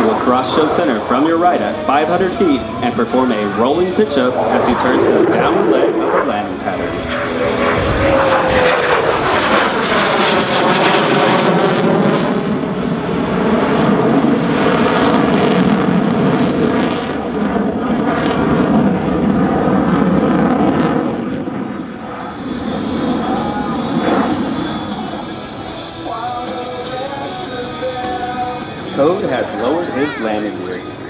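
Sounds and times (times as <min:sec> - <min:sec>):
fighter jet engine roaring: 0:00.0 - 0:31.0.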